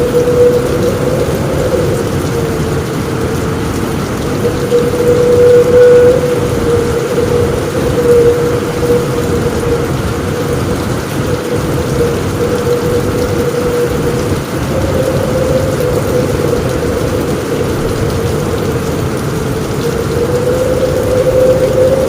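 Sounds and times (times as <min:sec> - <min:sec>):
low rumble of thunder: 0:00.0 - 0:22.0
rain on a roof: 0:00.0 - 0:22.0
steady wavering tone: 0:00.0 - 0:22.0.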